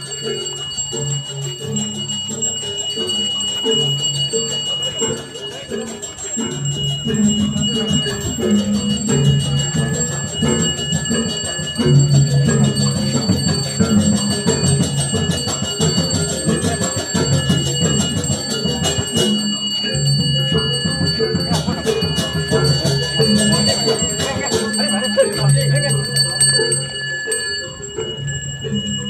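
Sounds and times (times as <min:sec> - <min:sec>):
bell ringing: 0:00.0 - 0:29.0.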